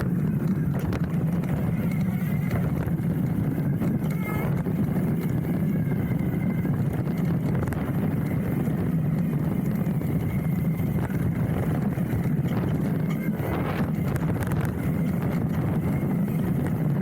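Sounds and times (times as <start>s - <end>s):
bike rattling over bumps: 0.0s - 17.0s
tyres rumbling on dirt trail: 0.0s - 17.0s.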